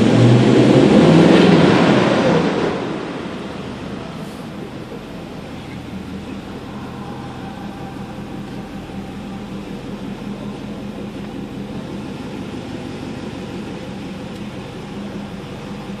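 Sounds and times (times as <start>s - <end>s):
diesel engine running at low revs: 0.0s - 16.0s.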